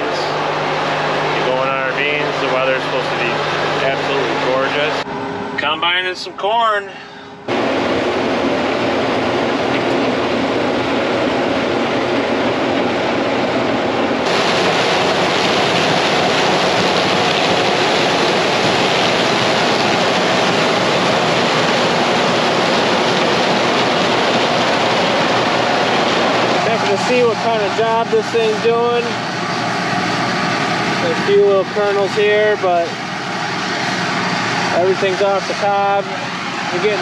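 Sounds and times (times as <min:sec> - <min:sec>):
combine harvester running: 0:00.0 - 0:37.0.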